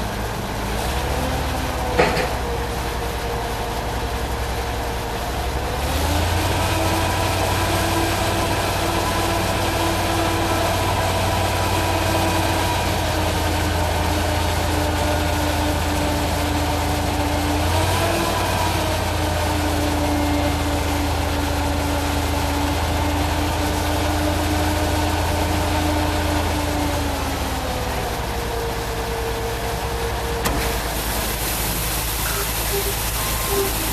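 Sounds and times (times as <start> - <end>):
truck engine droning: 0.0 - 33.9.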